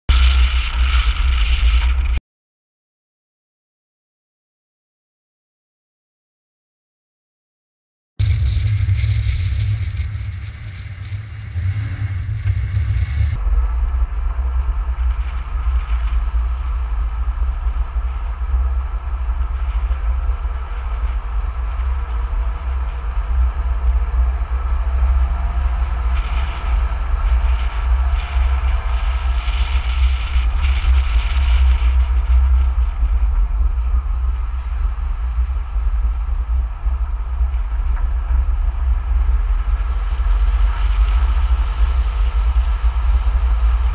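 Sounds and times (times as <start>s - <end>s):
vehicle rumble and road hiss: 8.2s - 43.9s.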